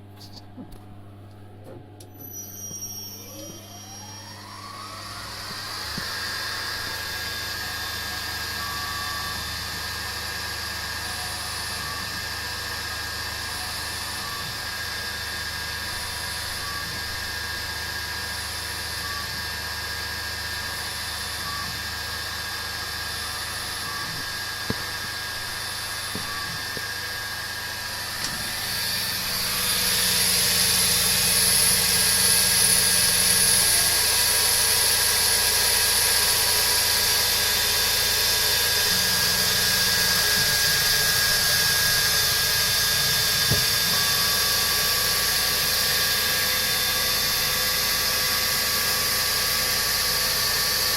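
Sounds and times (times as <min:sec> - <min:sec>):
milling machine whining: 0:02.0 - 0:50.9.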